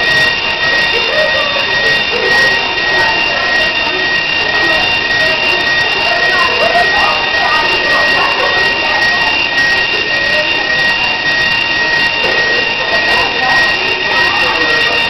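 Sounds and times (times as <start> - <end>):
fire alarm tone: 0.0 - 15.0.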